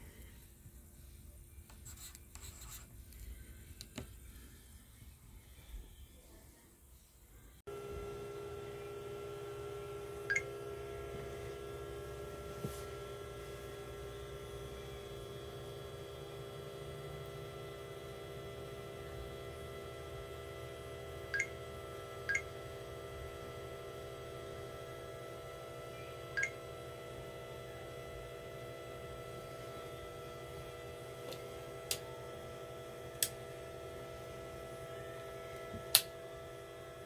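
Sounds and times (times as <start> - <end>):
steady electrical hum: 0.0 - 37.0.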